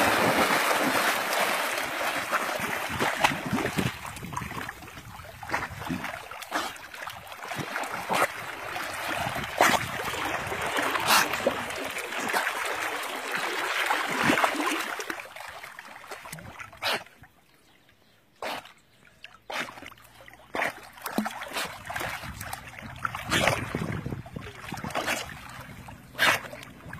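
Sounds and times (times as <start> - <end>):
puppy splashing water: 0.0 - 17.1, 19.3 - 26.9.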